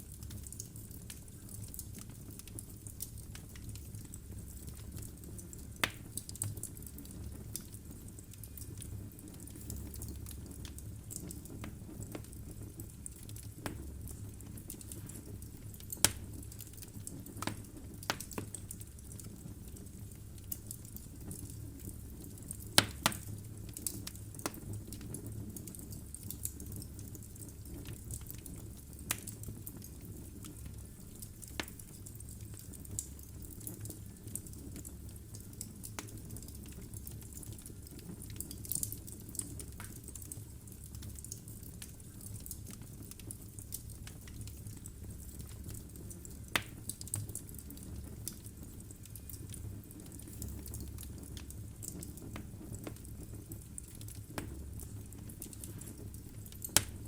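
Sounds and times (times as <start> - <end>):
fire flames rumbling: 0.0 - 57.0
logs crackling and popping: 0.0 - 57.0.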